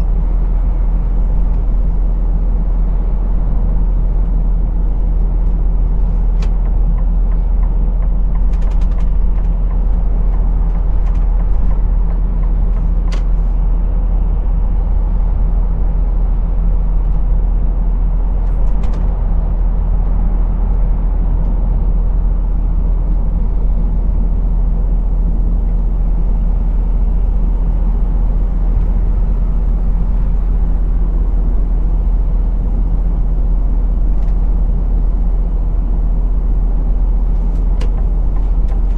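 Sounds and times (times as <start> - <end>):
road noise: 0.0 - 38.9
truck diesel engine running: 0.0 - 38.9.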